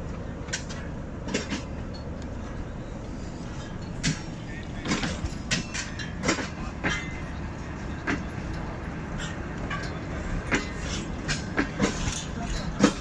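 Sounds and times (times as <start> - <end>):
train wheels rumbling on rail: 0.0 - 13.0
wheels clacking over rail joints: 0.0 - 13.0.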